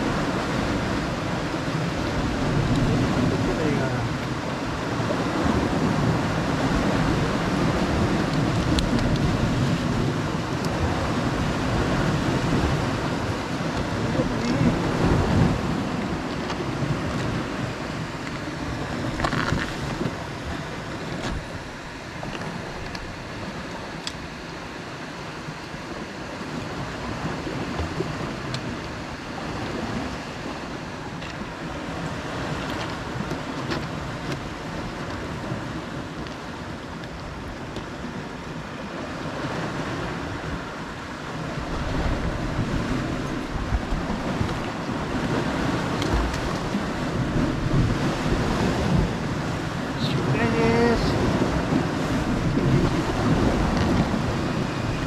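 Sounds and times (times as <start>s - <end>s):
wind buffeting microphone: 0.0s - 24.1s, 31.4s - 55.0s
waves washing against rocks: 0.0s - 55.0s.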